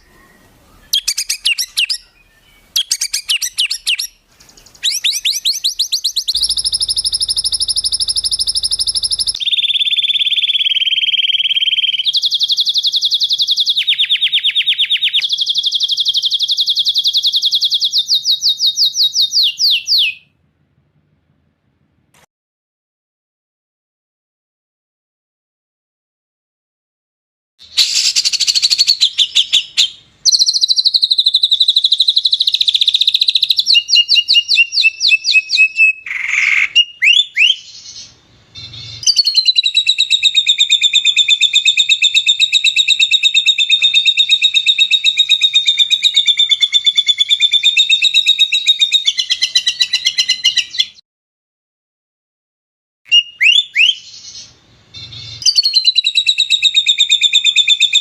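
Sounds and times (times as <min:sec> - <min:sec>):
songbird trills and chirps: 0:00.0 - 0:20.2, 0:27.8 - 0:51.0, 0:53.1 - 0:58.0.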